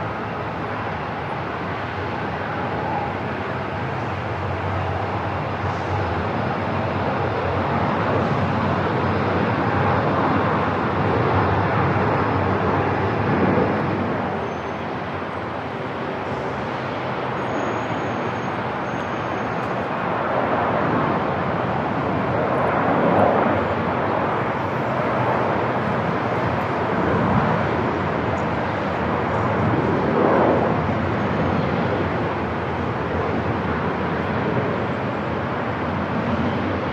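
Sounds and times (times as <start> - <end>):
aircraft engines rushing: 0.0 - 36.9.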